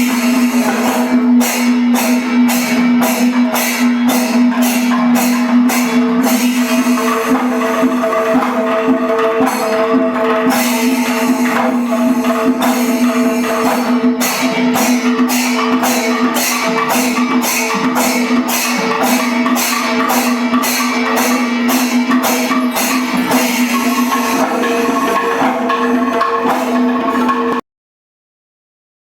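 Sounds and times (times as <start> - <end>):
jingling percussion beat: 0.0 - 27.6.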